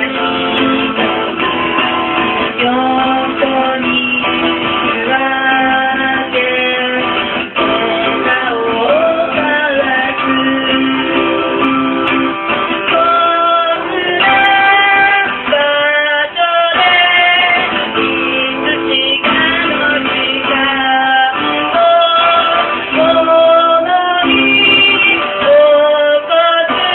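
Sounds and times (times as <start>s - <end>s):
acoustic guitar: 0.0s - 26.9s
woman singing: 2.4s - 11.4s, 12.8s - 26.9s.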